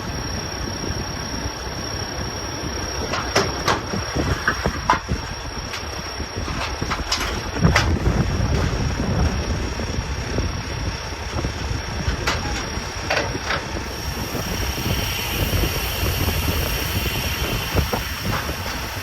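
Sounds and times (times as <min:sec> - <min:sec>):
heavy vehicle rumbling: 0:00.0 - 0:19.0.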